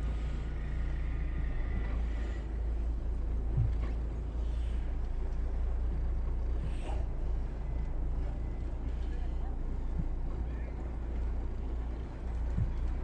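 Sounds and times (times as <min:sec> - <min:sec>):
boat diesel engines droning: 0:00.0 - 0:13.0.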